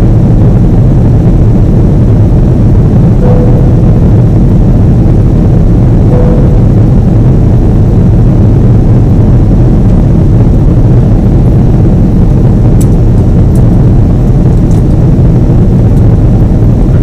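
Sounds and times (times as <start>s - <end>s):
jet engine low rumble: 0.0s - 17.0s.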